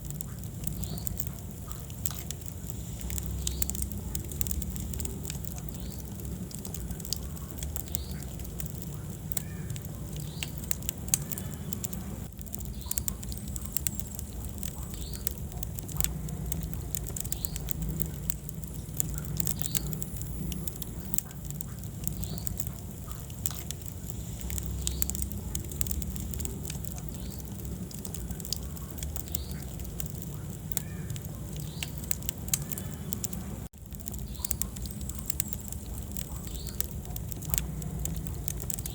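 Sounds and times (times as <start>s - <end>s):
logs crackling and popping: 0.0s - 38.9s
rumble of flames: 0.0s - 38.9s.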